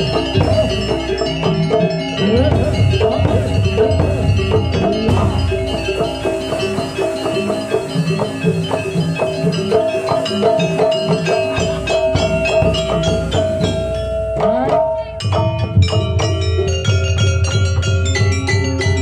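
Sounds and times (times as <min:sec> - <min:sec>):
deep drumbeat: 0:00.0 - 0:18.4
pitched mallet percussion: 0:00.0 - 0:19.0.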